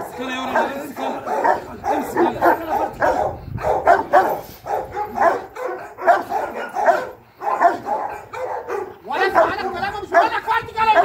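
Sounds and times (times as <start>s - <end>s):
dog barking aggressively: 0.0s - 11.0s.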